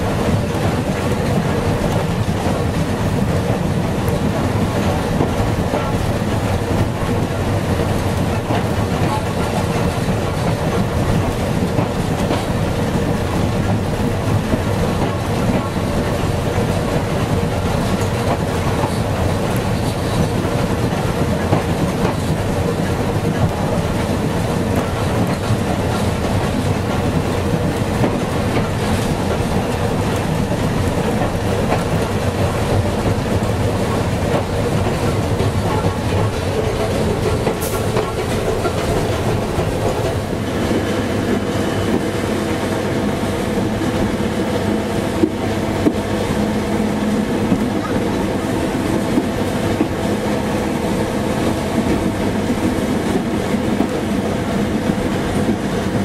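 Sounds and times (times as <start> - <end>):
railway carriage running on track: 0.0 - 56.0.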